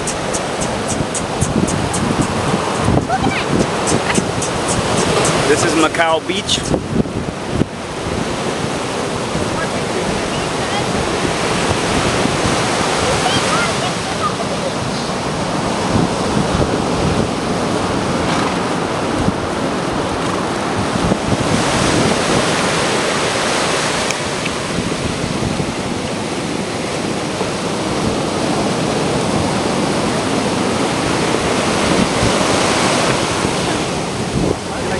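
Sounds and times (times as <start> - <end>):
ocean surf breaking: 0.0 - 34.9
wind on microphone: 0.0 - 34.9.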